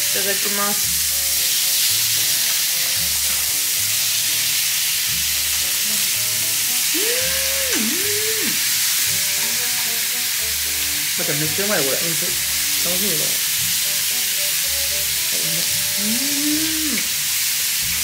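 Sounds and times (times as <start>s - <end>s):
background music: 0.0s - 18.0s
food sizzling on grill plate: 0.0s - 18.0s.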